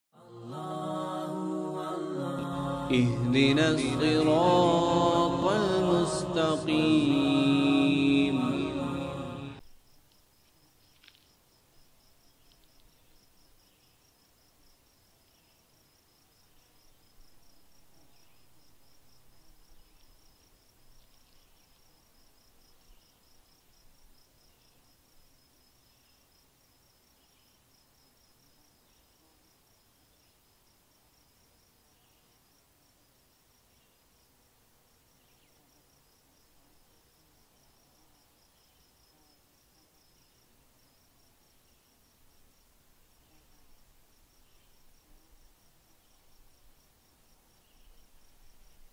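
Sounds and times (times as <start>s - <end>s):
higher insect calls: 0.6s - 34.3s, 34.9s - 48.9s
crickets chirping: 2.2s - 48.9s.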